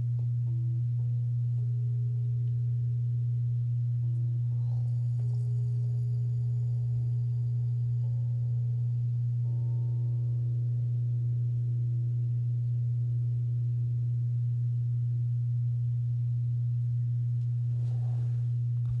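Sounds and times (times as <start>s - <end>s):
low-pitched hum: 0.0s - 19.0s.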